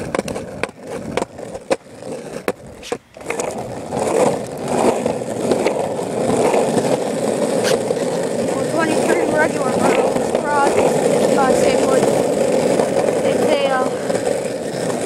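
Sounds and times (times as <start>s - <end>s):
skateboard rolling over asphalt: 0.0s - 15.0s.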